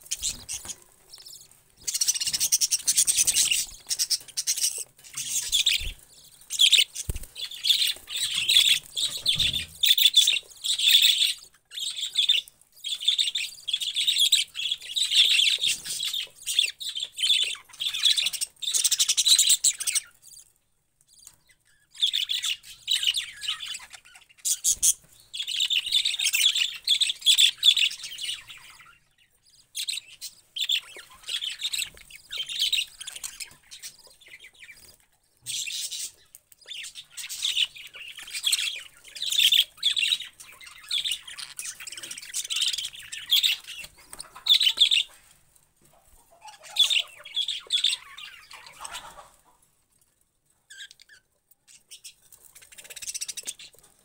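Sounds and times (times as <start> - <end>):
budgerigars chirping: 0.0 - 20.4, 21.4 - 45.2, 46.2 - 49.6, 50.7 - 53.8.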